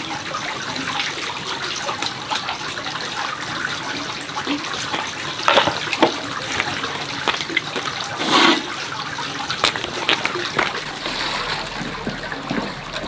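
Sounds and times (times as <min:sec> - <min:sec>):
water running and splashing: 0:00.0 - 0:13.0.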